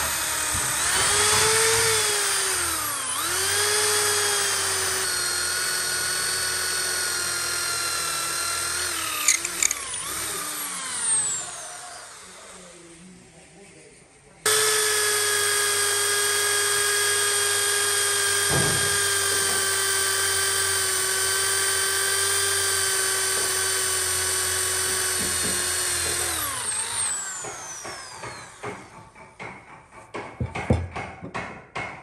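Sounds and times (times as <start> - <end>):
power tool motor whining: 0.0 - 12.8, 14.5 - 29.0.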